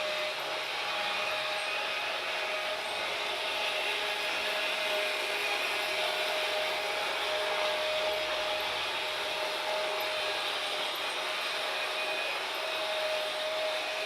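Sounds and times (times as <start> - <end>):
train wheels rushing on rail: 0.0 - 14.0.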